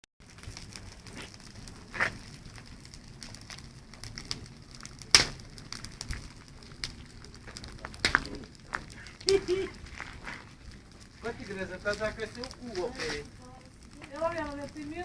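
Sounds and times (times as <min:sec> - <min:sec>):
bonfire crackling: 0:00.2 - 0:15.0
sharp pops of burning wood: 0:00.2 - 0:15.0.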